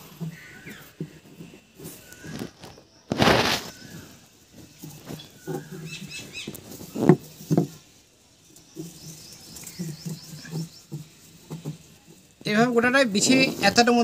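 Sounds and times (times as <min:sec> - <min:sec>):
rustles and knocks of coir: 0:00.0 - 0:14.0
small birds chirping: 0:00.0 - 0:14.0.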